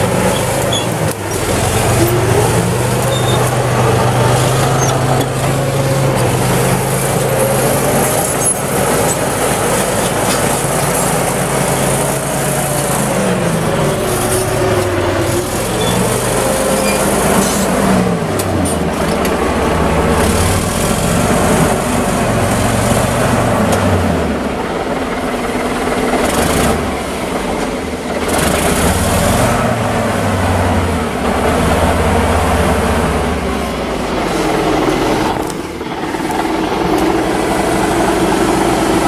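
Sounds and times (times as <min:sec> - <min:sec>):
heavy machine engine working: 0:00.0 - 0:39.0.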